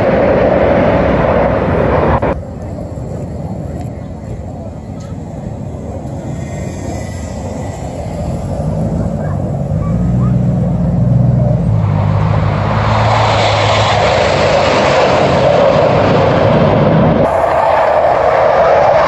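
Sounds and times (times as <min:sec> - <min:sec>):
jet engines roaring: 0:00.0 - 0:19.0
low steady engine hum: 0:00.0 - 0:19.0.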